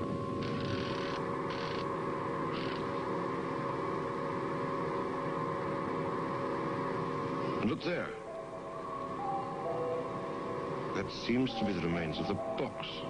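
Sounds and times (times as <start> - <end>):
sci-fi soundtrack drone: 0.0 - 13.0.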